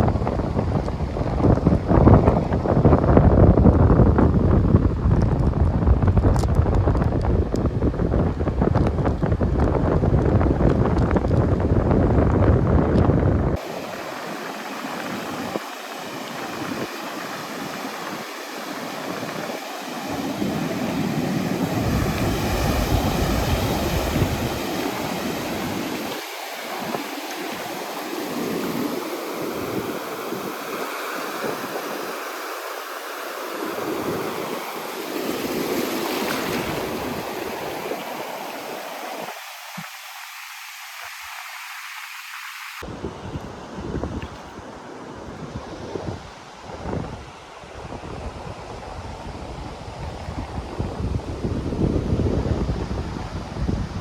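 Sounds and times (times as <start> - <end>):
surf washing onto beach: 0.0 - 54.0
wind rumbling on microphone: 0.0 - 54.0.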